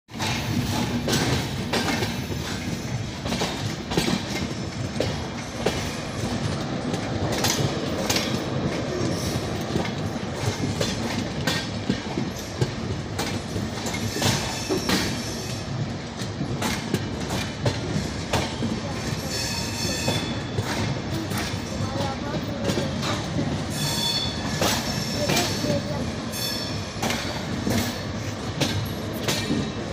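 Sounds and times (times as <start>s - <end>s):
train rumble: 0.1s - 29.9s
train wheels clattering: 0.1s - 29.9s.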